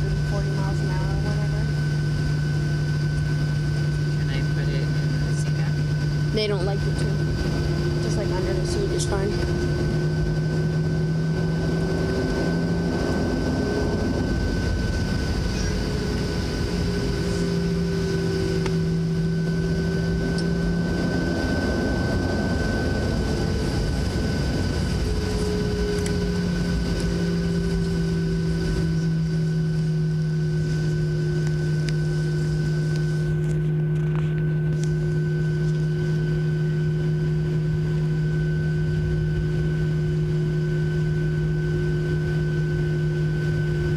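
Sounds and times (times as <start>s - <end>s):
humming tones: 0.0s - 43.9s
jet engine drone in cabin: 0.0s - 43.9s.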